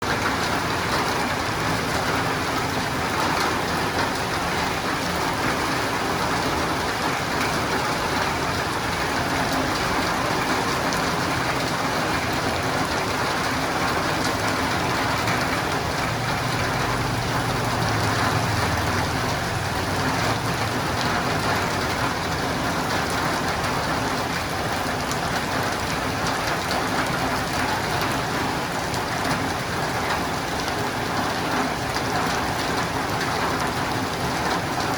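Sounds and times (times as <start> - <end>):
heavy rain on roof and windows: 0.0 - 34.9.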